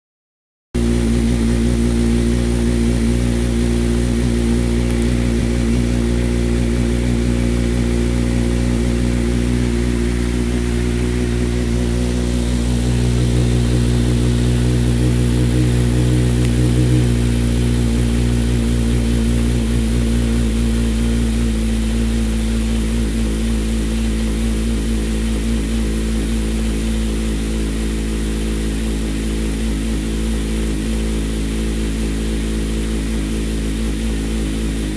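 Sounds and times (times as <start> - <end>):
motorcycle engine running: 0.8 - 34.9.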